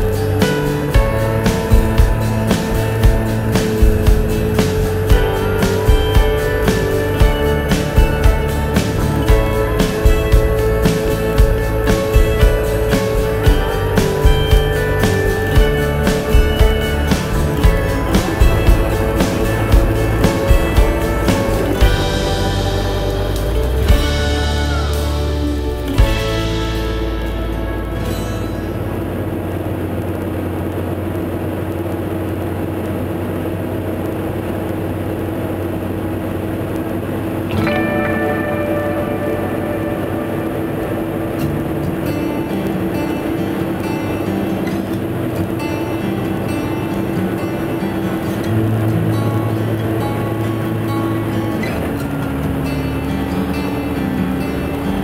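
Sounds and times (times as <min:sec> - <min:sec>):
background music sustained notes: 0:00.0 - 0:31.0, 0:37.4 - 0:55.0
tractor engine droning: 0:00.0 - 0:55.0.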